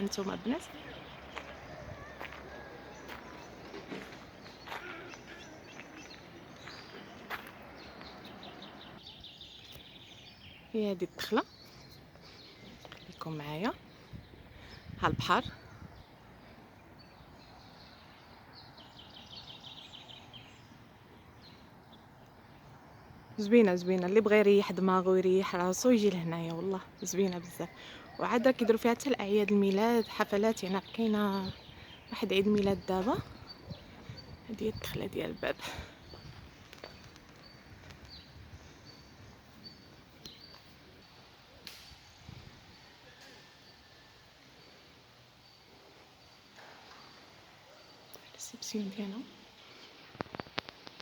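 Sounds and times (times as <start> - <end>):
faint outdoor ambience: 0.0 - 51.0.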